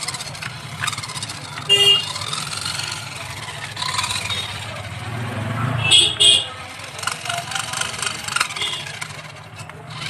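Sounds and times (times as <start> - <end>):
toy truck electric motor whirring: 0.0 - 5.0, 6.1 - 10.0.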